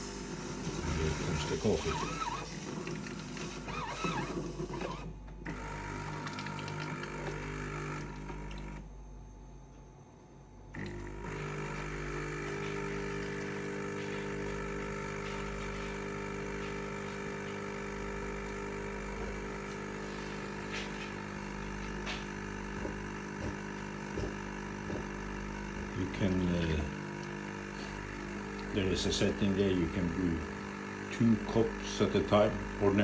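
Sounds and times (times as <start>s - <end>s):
coffee machine pump humming: 0.0s - 9.0s, 10.7s - 33.0s.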